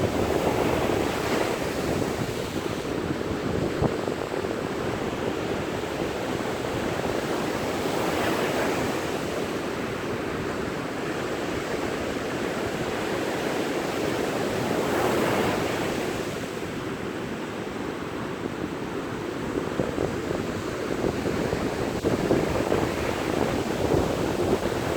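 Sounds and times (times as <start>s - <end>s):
sea waves breaking on beach: 0.0s - 18.0s, 18.6s - 24.9s
wind on microphone: 0.0s - 24.9s.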